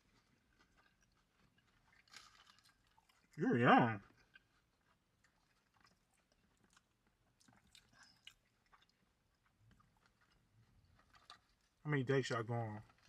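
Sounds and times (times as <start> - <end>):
person chewing food: 0.0 - 3.4, 4.0 - 11.8.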